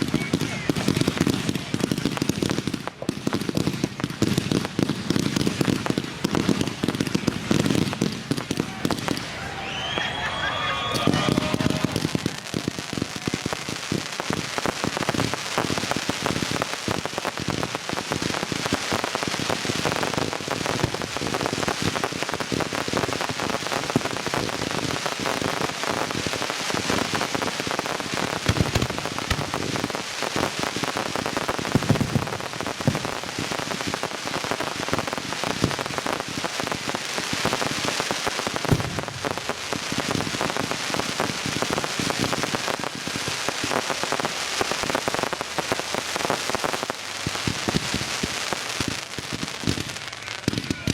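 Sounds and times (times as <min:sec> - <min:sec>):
deep firework booms: 0:00.0 - 0:10.0, 0:10.8 - 0:46.2
fireworks crackling: 0:00.0 - 0:50.9.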